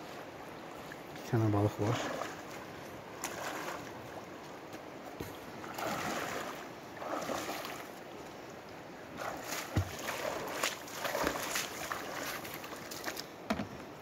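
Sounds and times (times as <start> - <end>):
legs wading and splashing: 1.8 - 13.4.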